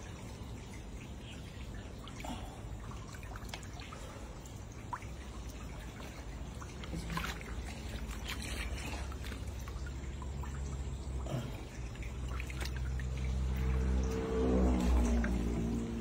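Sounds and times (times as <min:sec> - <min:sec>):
shallow water splashing: 0:00.0 - 0:16.0
small sharp splashes: 0:00.0 - 0:16.0.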